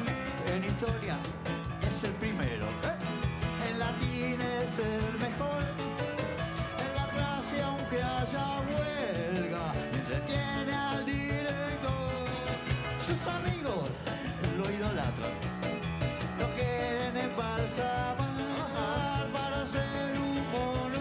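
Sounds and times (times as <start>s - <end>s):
person singing: 0.0s - 15.4s, 16.3s - 21.0s
live band music: 0.0s - 21.0s.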